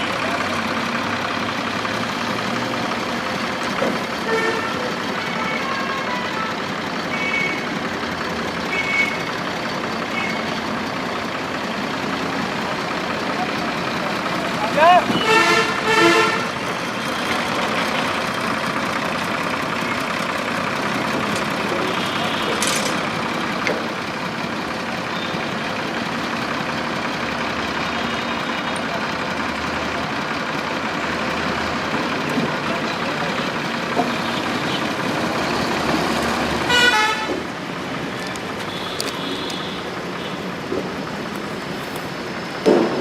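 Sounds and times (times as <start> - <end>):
motor vehicle noise: 0.0 - 43.0.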